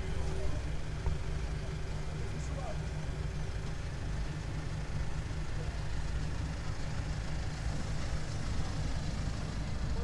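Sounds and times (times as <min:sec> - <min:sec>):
large engine idling: 0:00.0 - 0:10.0.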